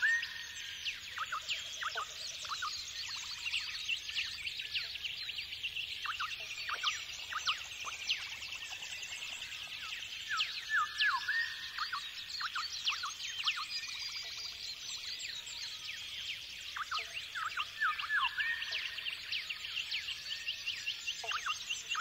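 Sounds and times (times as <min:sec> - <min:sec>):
chorus of birds singing: 0:00.0 - 0:22.0.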